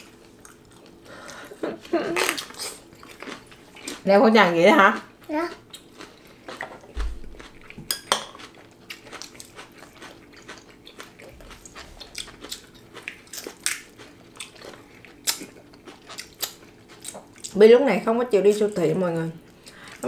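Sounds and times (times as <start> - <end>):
people chewing food: 0.0 - 17.6, 18.5 - 20.0.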